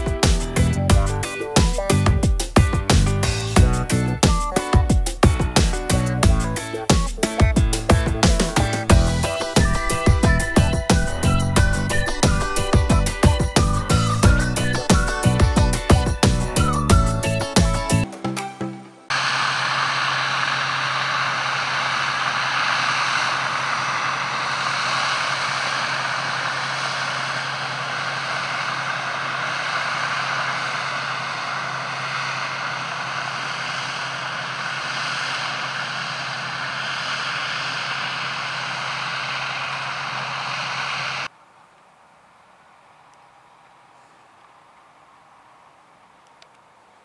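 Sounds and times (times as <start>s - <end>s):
tractor engine drone: 0.0s - 18.1s, 18.9s - 47.0s.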